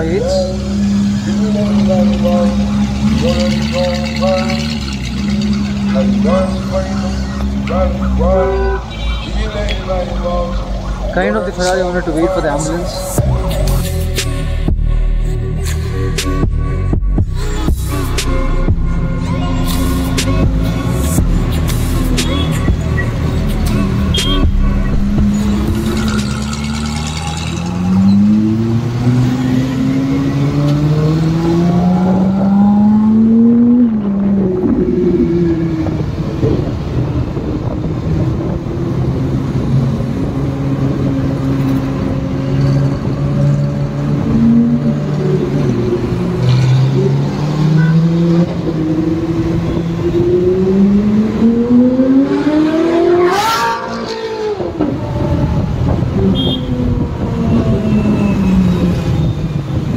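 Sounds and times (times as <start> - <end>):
sports car engines accelerating: 0.0 - 59.9.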